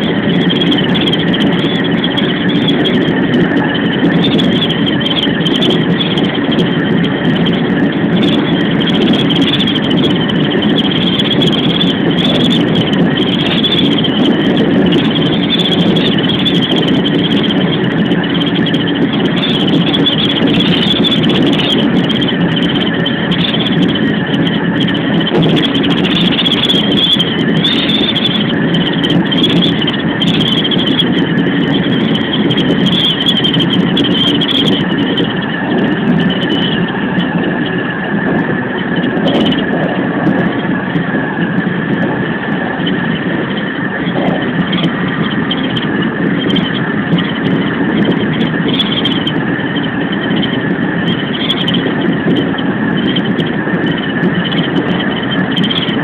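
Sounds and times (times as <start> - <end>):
high wavering whine: 0.0 - 56.0
train wheels rumbling: 0.0 - 56.0.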